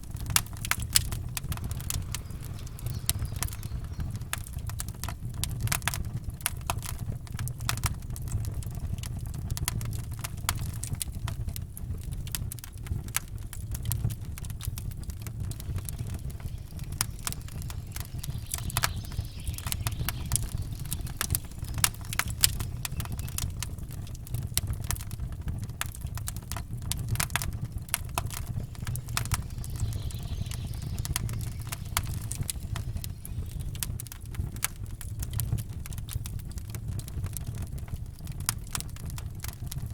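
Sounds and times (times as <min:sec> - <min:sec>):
burning wood crackling and popping: 0:00.0 - 0:39.9
fire low rumble: 0:00.0 - 0:39.9.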